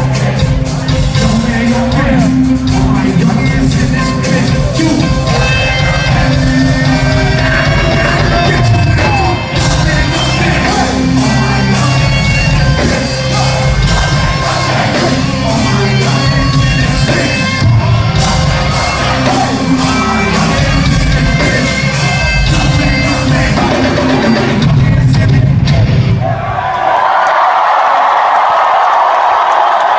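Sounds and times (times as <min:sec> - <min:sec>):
heavy beat: 0:00.0 - 0:26.1
live hip-hop music over pa: 0:00.0 - 0:26.2
shouted and sung vocals: 0:00.0 - 0:29.9.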